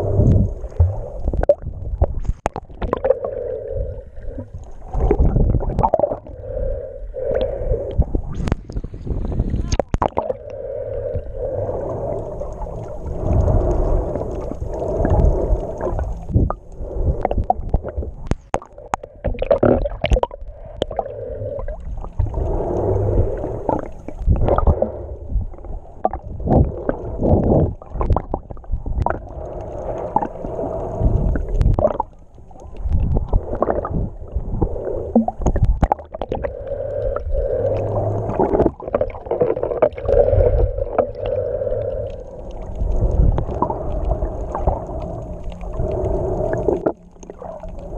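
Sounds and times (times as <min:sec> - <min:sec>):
muffled water sloshing and gurgling: 0:00.0 - 0:47.9.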